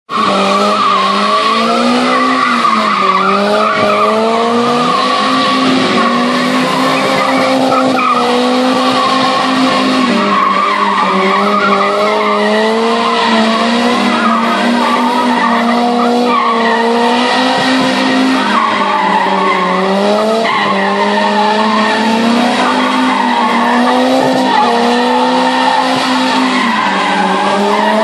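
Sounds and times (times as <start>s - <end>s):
car engine at high revs: 0.1s - 28.0s
tyres skidding on wet ground: 0.1s - 28.0s.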